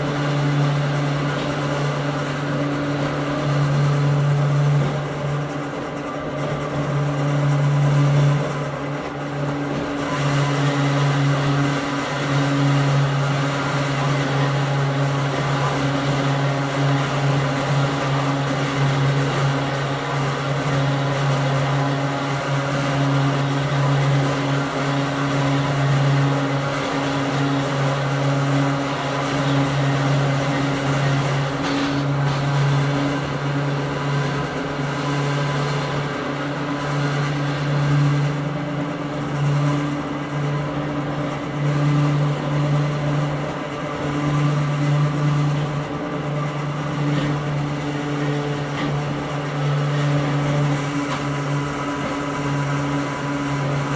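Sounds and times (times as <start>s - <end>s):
wheel and rail noise: 0.0s - 53.9s.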